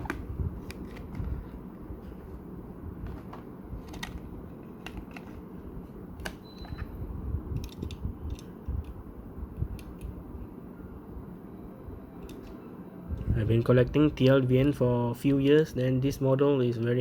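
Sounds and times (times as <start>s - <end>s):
steady low rumble: 0.0s - 6.2s, 6.8s - 15.2s.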